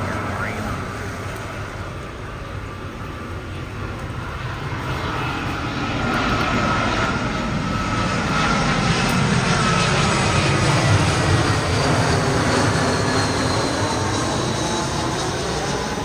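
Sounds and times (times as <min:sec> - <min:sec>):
jet airliner engines: 0:00.0 - 0:16.0.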